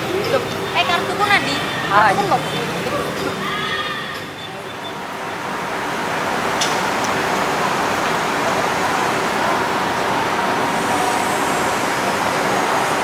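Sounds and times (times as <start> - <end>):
moving vehicle noise: 0.0 - 13.0.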